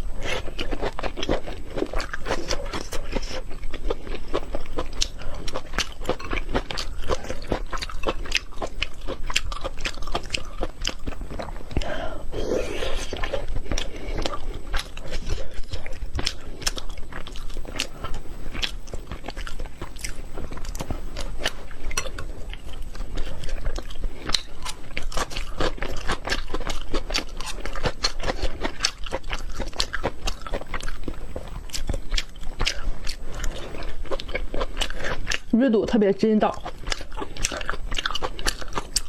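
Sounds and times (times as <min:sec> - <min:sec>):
person chewing food close up: 0:00.0 - 0:39.0.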